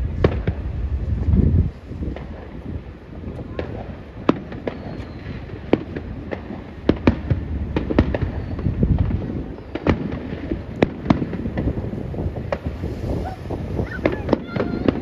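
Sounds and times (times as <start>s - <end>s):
continuous low rumble: 0.0s - 15.0s
fireworks bursting: 0.0s - 15.0s.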